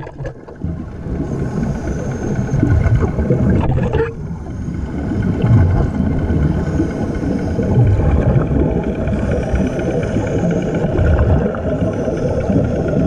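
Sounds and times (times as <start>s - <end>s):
underwater breathing bubbles: 0.0s - 13.0s.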